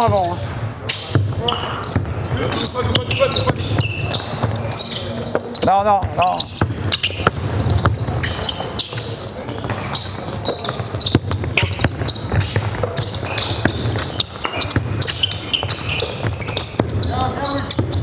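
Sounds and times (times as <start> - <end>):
basketball bouncing on wooden floor: 0.0 - 18.0
sneakers squeaking on court: 0.0 - 18.0.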